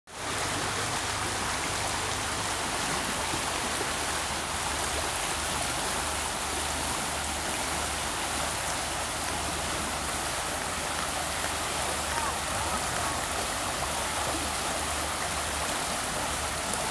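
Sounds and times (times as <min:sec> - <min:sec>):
river flowing over rocks: 0:00.1 - 0:16.9.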